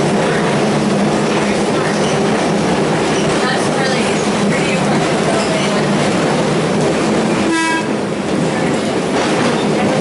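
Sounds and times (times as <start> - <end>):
streetcar wheels rumbling on rail: 0.0 - 10.0.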